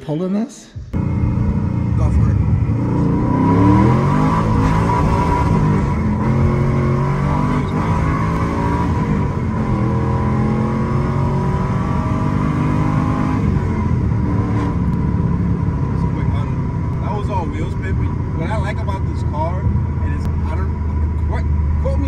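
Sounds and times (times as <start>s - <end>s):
car engine accelerating hard: 1.0s - 22.0s.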